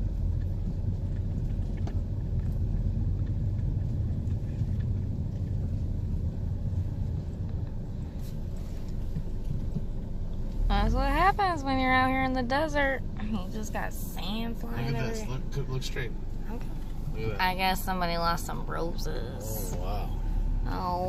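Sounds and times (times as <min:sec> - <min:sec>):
van interior rumble: 0:00.0 - 0:21.0
wind buffeting van: 0:00.0 - 0:21.0.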